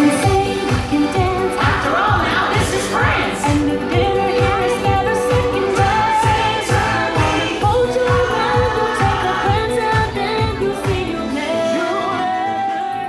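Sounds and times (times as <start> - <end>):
upbeat pop song with singing: 0.0 - 13.0
kick drum beat: 0.2 - 11.2.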